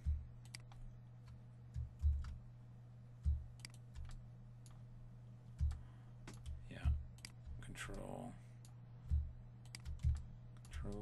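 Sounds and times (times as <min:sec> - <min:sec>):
keyboard and mouse clicking: 0:00.0 - 0:02.4, 0:03.2 - 0:04.8, 0:05.6 - 0:11.0
low steady hum: 0:00.0 - 0:11.0.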